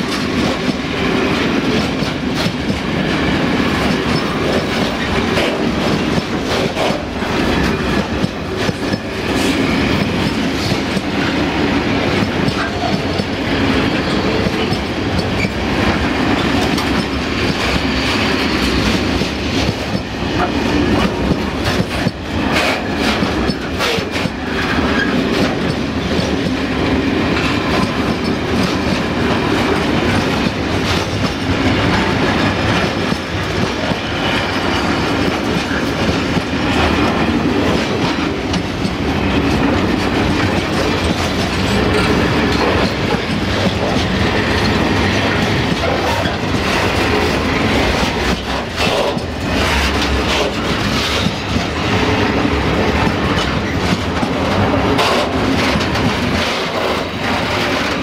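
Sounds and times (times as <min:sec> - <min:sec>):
freight train wheels rumbling: 0:00.0 - 0:58.0
wheels clicking over rail joints: 0:03.7 - 0:58.0.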